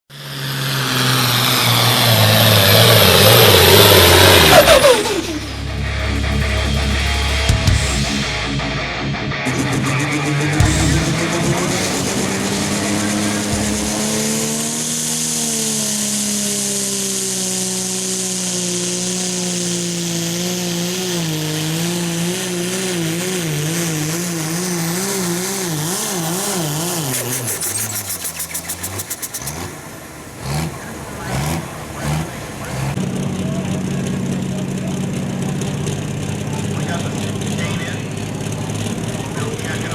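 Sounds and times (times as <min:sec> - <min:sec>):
diesel tractor engine at full throttle: 0:00.1 - 0:39.9.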